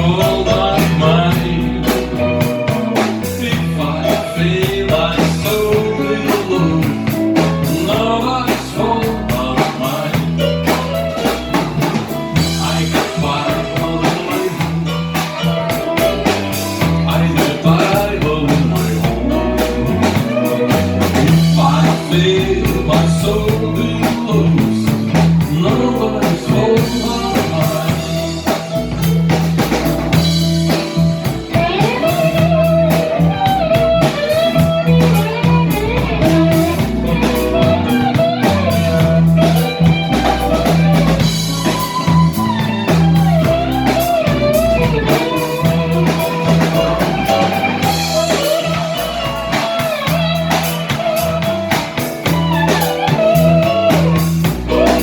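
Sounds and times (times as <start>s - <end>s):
lead electric guitar bent notes: 0.0s - 55.0s
live rock band playing: 0.0s - 55.0s.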